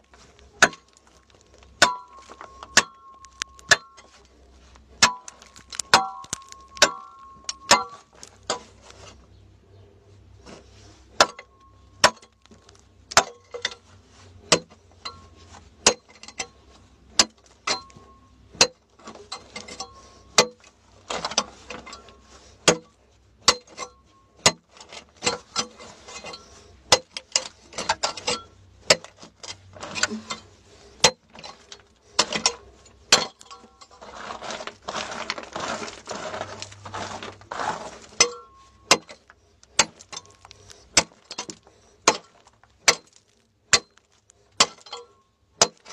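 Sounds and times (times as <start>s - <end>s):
metal tool striking stony soil: 0.0s - 8.9s, 11.1s - 13.8s, 14.5s - 45.9s
scraping loose soil: 0.0s - 45.9s.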